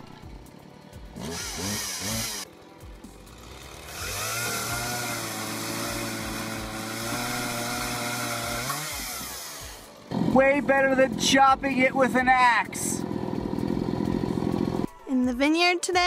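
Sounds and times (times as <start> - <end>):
chainsaw cutting log: 1.1 - 2.6, 3.2 - 14.9.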